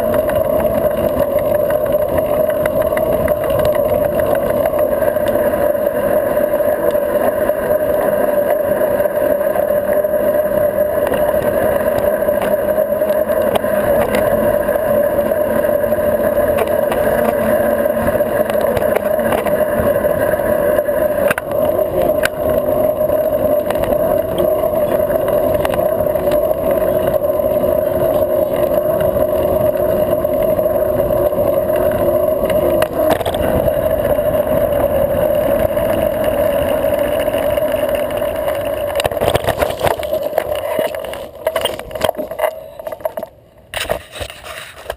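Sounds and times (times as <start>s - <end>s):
bike tyre rolling on asphalt: 0.0s - 44.9s.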